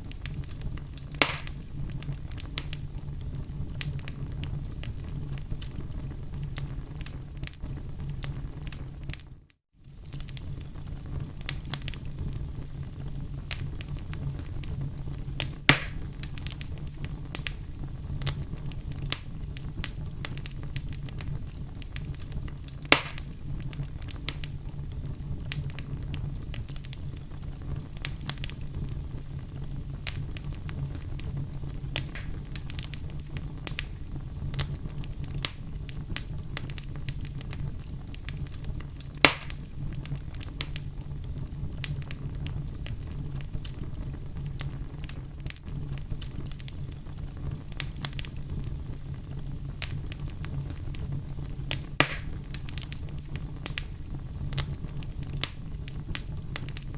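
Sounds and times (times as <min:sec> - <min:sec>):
fire pops: 0:00.0 - 0:56.9
wood fire crackling: 0:00.0 - 0:56.9.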